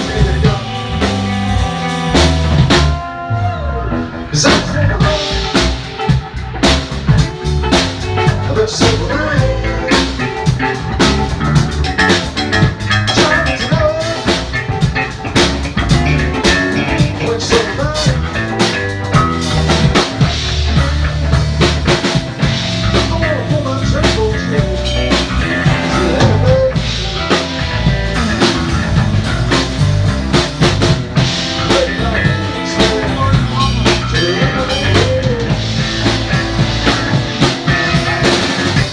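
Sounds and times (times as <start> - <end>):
drum kit rock beat: 0.0 - 3.2, 4.3 - 38.9
guitar playing: 0.0 - 38.9.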